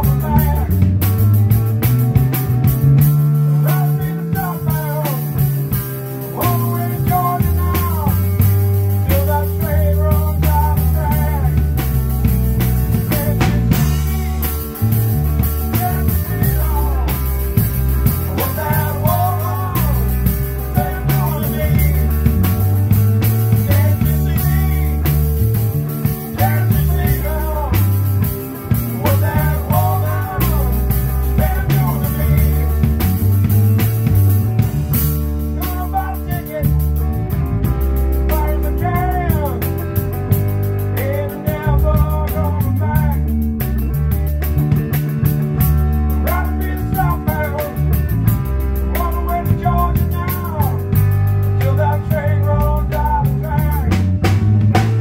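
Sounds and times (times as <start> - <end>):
drum kit beat: 0.0 - 55.0
guitar strumming: 0.0 - 55.0.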